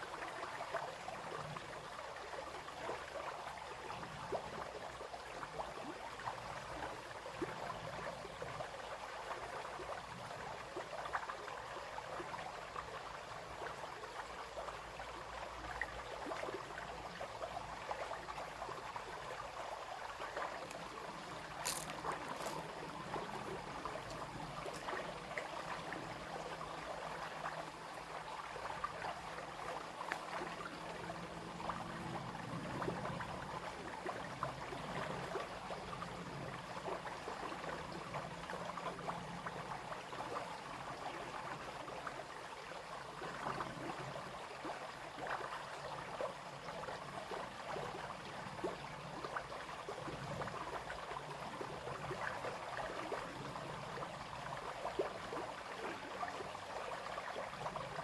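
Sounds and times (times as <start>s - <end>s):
brook babbling: 0.0s - 58.0s.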